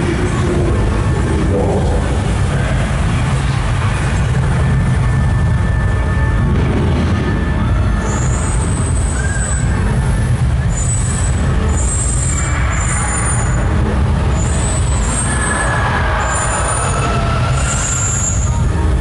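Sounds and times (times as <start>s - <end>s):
loud low rumble: 0.0s - 19.0s.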